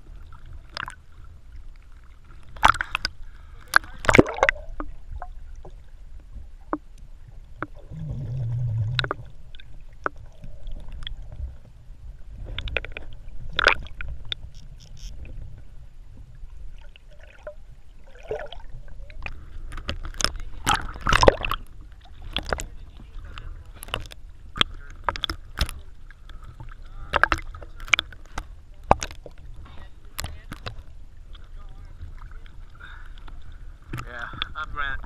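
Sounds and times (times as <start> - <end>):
water sloshing and gurgling: 0.0 - 35.0.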